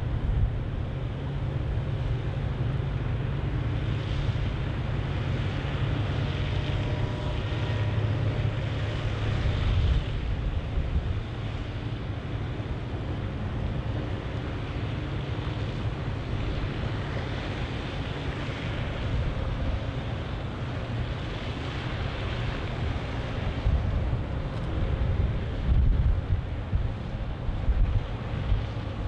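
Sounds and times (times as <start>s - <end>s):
faint machinery hum: 0.0s - 29.0s
water washing along ship hull: 0.0s - 29.0s
wind buffeting microphone: 0.0s - 29.0s.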